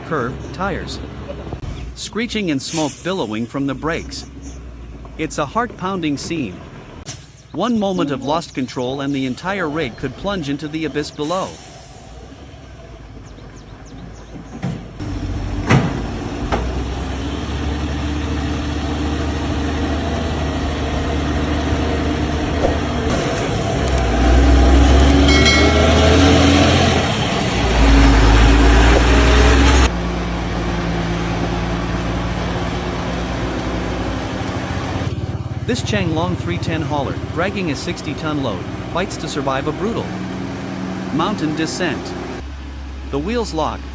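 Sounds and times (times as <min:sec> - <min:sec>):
road noise: 0:00.0 - 0:43.9
truck engine under load: 0:00.0 - 0:43.9.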